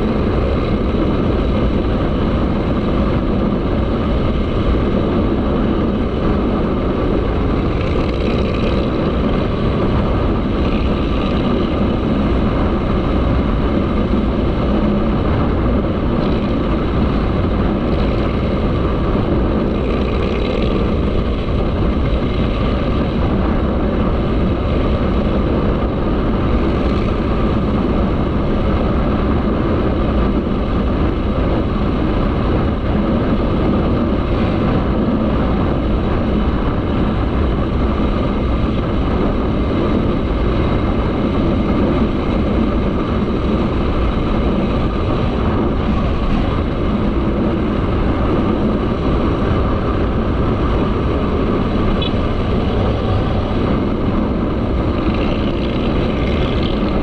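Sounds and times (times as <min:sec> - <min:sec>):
motorcycle engine drone: 0:00.0 - 0:57.0
wind noise on microphone: 0:00.0 - 0:57.0.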